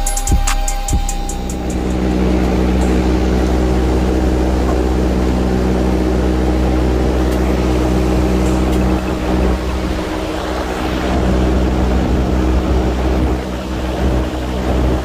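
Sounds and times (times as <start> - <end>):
machine humming with noisy rush: 0.0 - 15.0.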